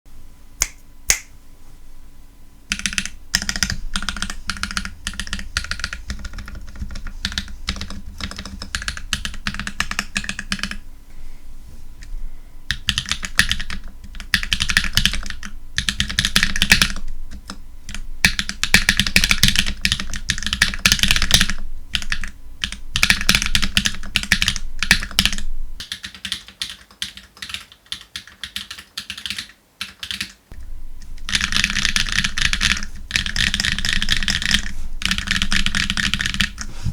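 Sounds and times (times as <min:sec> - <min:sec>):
mechanical keyboard typing: 0:02.7 - 0:10.8, 0:12.7 - 0:30.4, 0:31.1 - 0:36.7.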